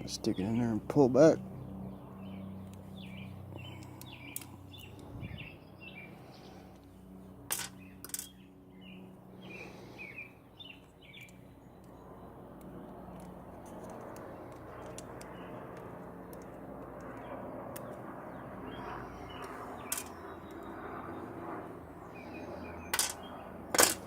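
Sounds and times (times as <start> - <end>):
small birds chirping: 0.0 - 23.7
low steady hum: 0.0 - 24.0.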